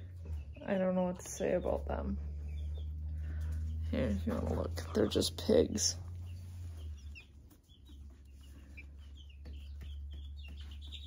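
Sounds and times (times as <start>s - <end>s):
low steady hum: 0.0s - 9.2s
chicks peeping: 0.0s - 11.0s.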